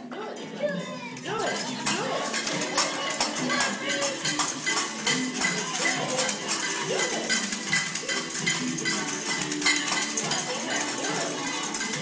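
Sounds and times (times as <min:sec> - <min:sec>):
metallic percussion strikes: 0:01.3 - 0:12.0.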